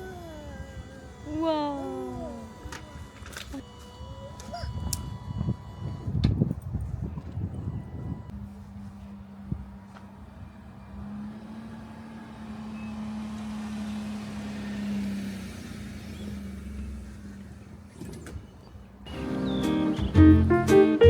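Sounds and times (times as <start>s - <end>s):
motor vehicle humming: 0.0s - 21.0s.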